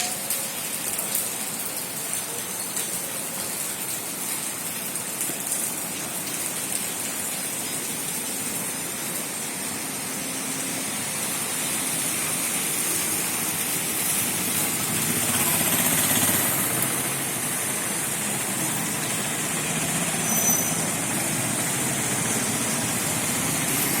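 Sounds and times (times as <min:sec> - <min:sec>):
steady rain: 0:00.0 - 0:24.0
vehicle passing on wet road: 0:03.7 - 0:24.0.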